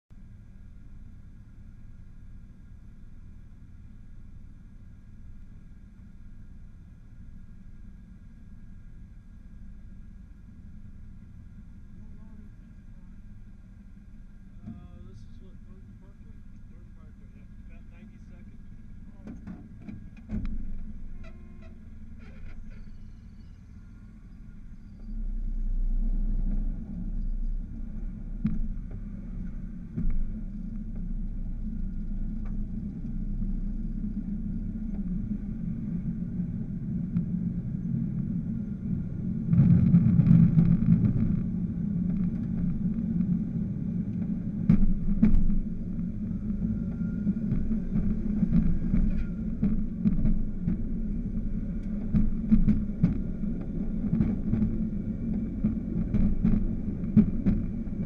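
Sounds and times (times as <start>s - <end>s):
small engine drone: 0.1s - 58.0s.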